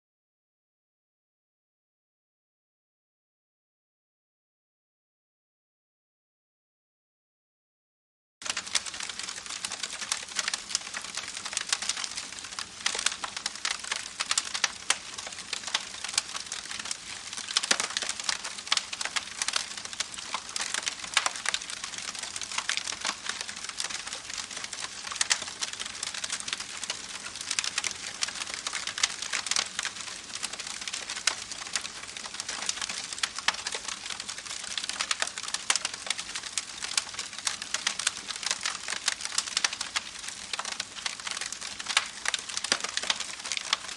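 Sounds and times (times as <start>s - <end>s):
campfire crackling: 8.4s - 43.9s.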